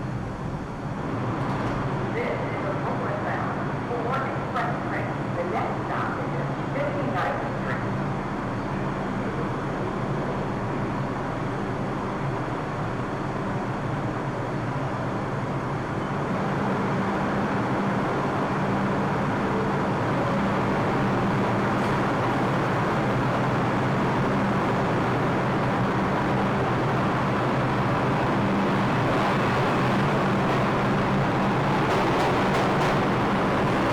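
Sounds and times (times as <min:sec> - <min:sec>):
subway train rumbling: 0:00.0 - 0:33.9.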